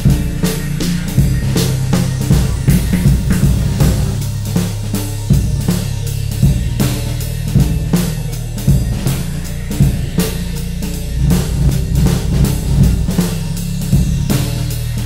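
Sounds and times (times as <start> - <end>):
electronic music with drum beat: 0.0 - 15.0.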